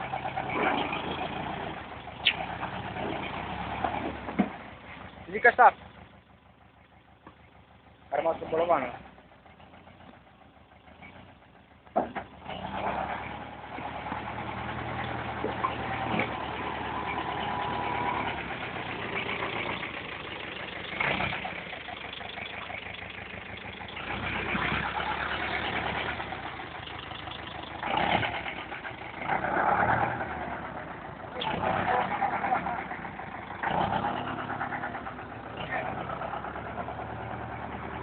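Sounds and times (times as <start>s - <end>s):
tractor engine starting and running: 0.0s - 38.0s.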